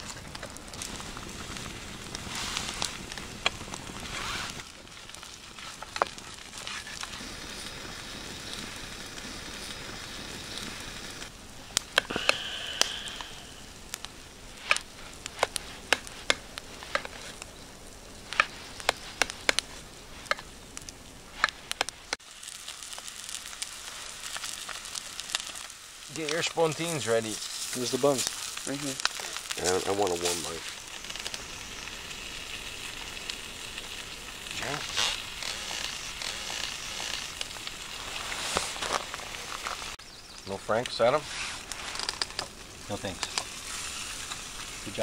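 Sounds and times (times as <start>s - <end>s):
crackling and sizzling: 0.0s - 45.0s.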